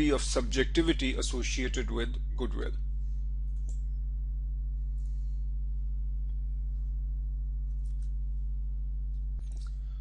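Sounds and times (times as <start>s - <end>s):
low electrical mains hum: 0.0s - 10.0s.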